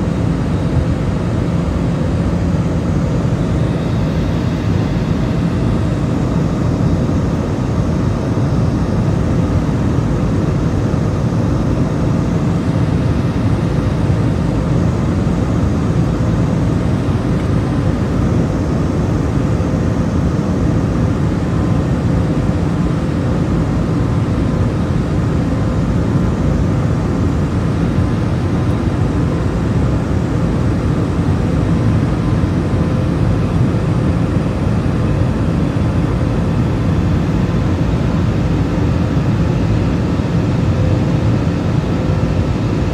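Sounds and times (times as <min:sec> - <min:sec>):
jet engine cabin roar: 0:00.0 - 0:42.9.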